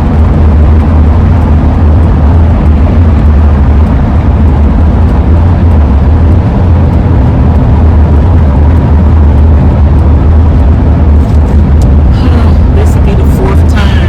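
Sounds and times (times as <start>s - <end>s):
loud road and wind rumble: 0.0s - 14.0s.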